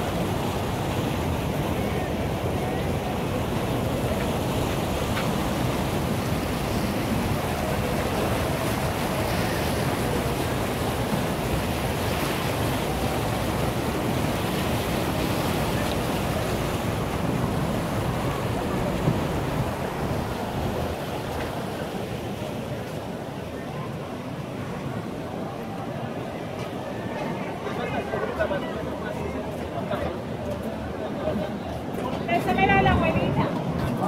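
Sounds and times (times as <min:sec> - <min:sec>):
low city rumble: 0:00.0 - 0:34.0.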